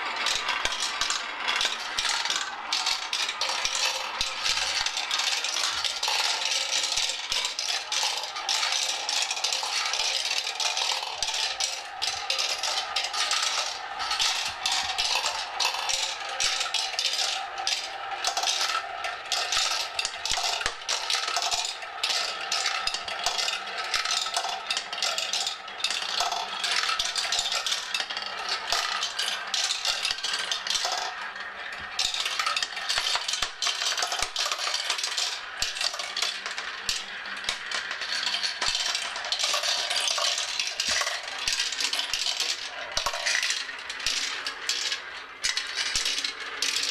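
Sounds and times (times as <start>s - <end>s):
marbles clattering down a marble run: 0.0s - 46.9s.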